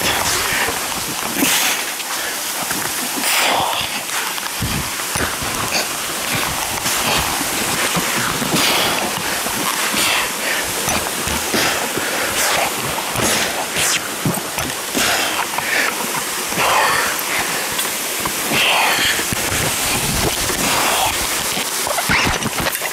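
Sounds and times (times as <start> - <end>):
water splashing on microphone: 0.0 - 22.9
waterfall rushing: 0.0 - 22.9.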